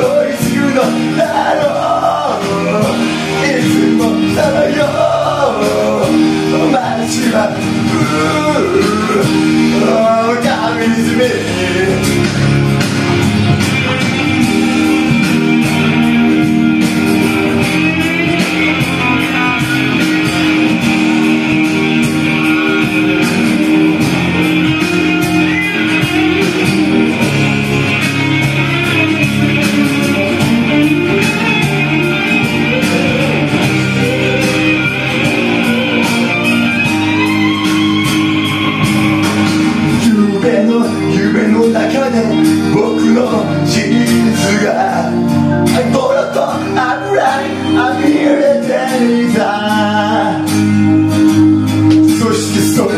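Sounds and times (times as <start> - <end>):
pop instrumental with guitar: 0.0 - 52.9.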